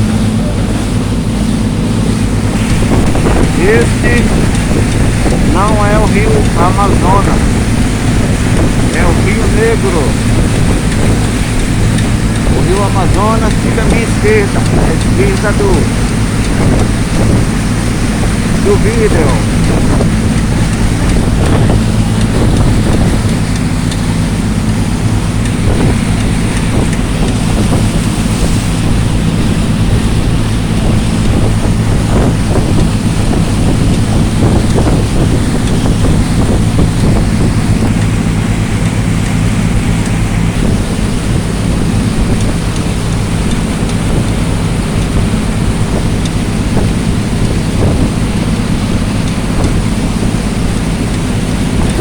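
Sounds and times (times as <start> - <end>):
boat engine humming: 0.0 - 52.0
water noise: 0.0 - 52.0
wind buffeting microphone: 0.0 - 52.0.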